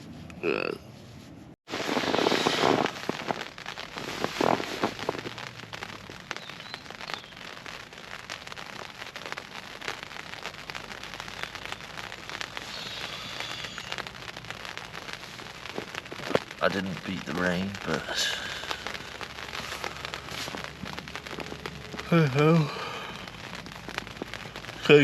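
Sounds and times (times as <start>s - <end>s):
rain pattering on tent: 1.6s - 25.0s.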